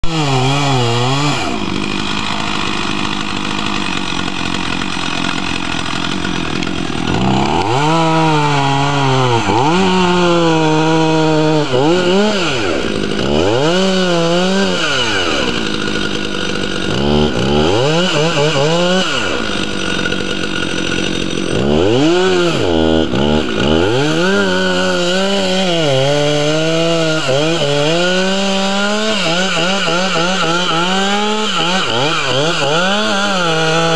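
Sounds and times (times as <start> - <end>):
chainsaw cutting a tree: 0.0 - 33.9.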